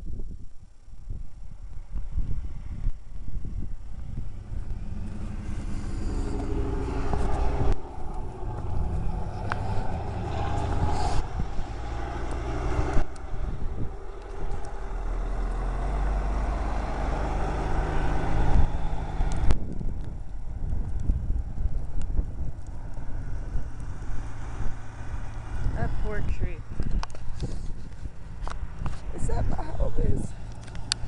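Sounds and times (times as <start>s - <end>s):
vehicle engine humming: 1.0s - 31.0s.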